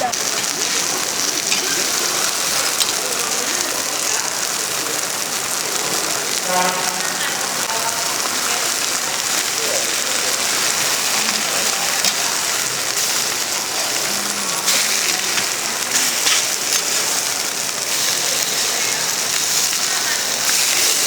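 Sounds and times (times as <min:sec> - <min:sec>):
pancakes sizzling in oil: 0:00.0 - 0:21.0.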